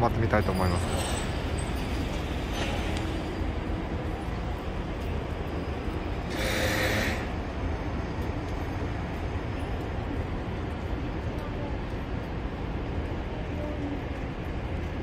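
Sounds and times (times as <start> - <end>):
buses and streetcar moving: 0.0 - 15.0
city traffic rumble: 0.0 - 15.0.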